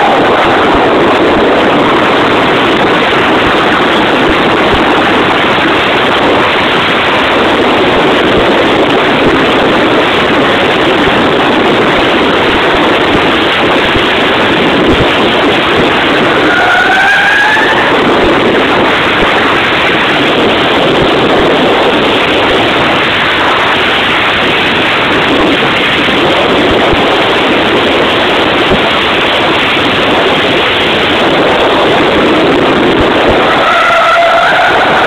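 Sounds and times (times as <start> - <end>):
rotary engine running hard: 0.0 - 35.0.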